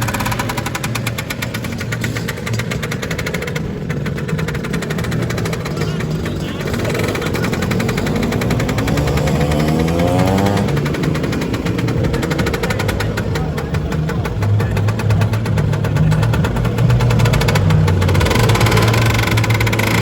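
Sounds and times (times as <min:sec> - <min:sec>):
scooter engine revving: 0:00.0 - 0:20.0
scooter engines popping: 0:00.0 - 0:20.0.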